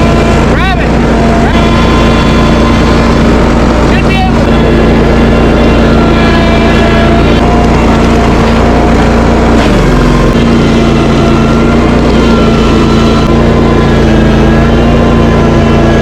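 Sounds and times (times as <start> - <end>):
gasoline engine running at high speed: 0.0 - 16.0.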